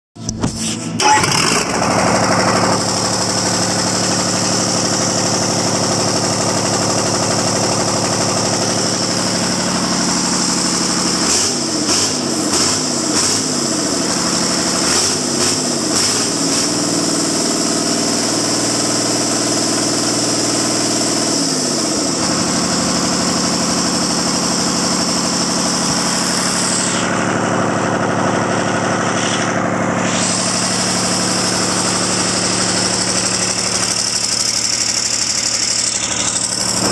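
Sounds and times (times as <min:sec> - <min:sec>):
diesel engine idling: 0:00.2 - 0:36.9
diesel engine revving: 0:00.2 - 0:36.9.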